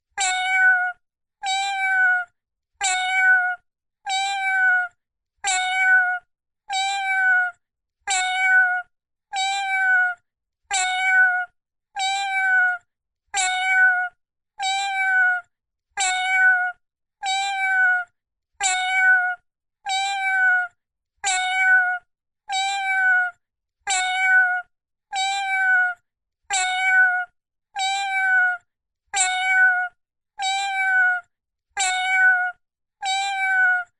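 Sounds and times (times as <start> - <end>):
cartoon kitten meow: 0.2 - 33.9.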